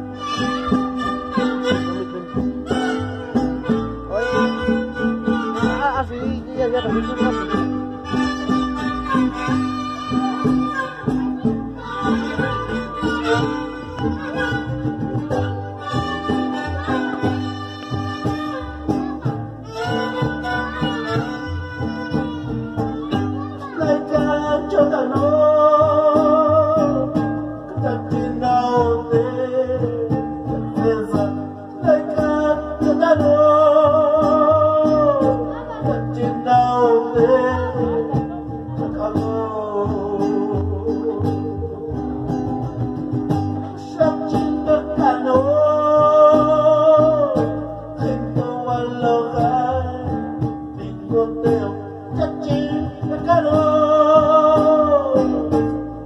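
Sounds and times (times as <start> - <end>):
guitars strumming: 0.0 - 56.0
man singing: 0.0 - 56.0.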